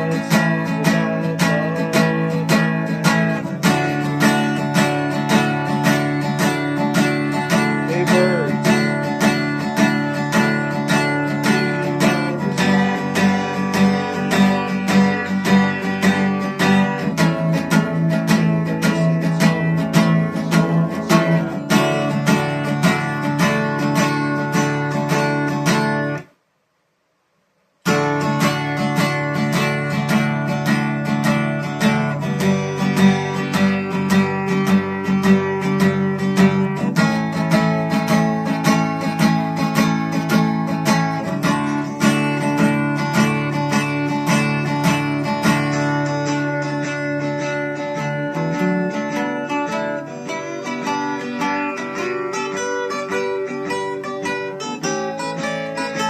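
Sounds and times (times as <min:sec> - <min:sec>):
acoustic guitar strumming: 0:00.0 - 0:26.4, 0:27.8 - 0:56.0.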